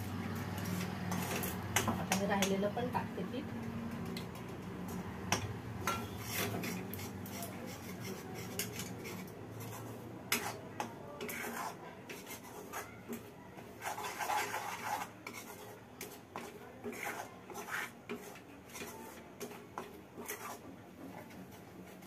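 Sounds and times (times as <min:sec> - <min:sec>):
steel spoon scraping a pot: 0:00.6 - 0:02.5, 0:04.9 - 0:21.3.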